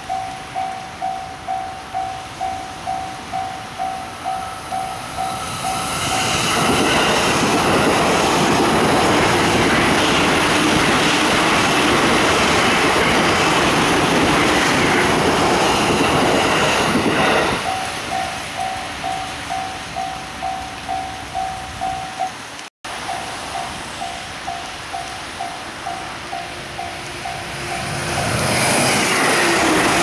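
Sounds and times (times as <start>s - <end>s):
level-crossing warning bell: 0.0s - 28.4s
train passing at high speed: 0.0s - 30.0s.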